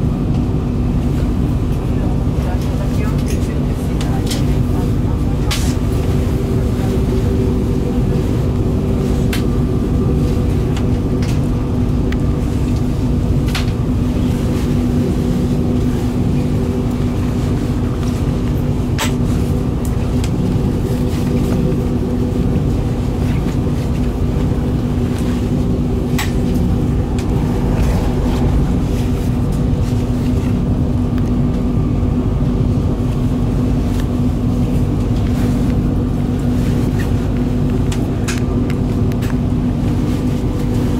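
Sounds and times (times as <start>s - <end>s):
steady hum: 0.0s - 36.6s
train running gear rumble: 0.0s - 40.9s.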